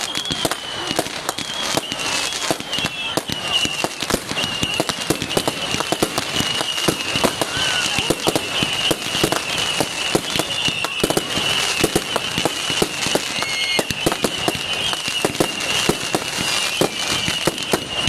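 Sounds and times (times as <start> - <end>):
fireworks cracking and popping: 0.0 - 18.0
high whistle: 0.0 - 18.0.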